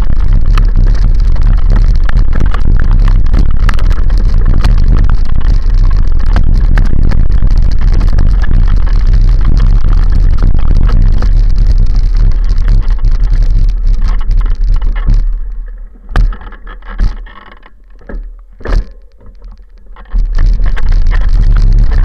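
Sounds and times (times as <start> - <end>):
bike knocks and rattles: 0.0 - 22.0
wind rumble on microphone: 0.0 - 22.0.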